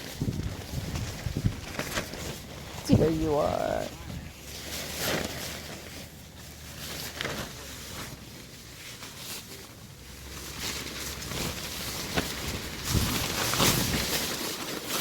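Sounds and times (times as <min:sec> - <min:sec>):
wind gusts against tent: 0:00.0 - 0:08.8, 0:09.4 - 0:15.0
tent fabric flapping: 0:00.0 - 0:15.0.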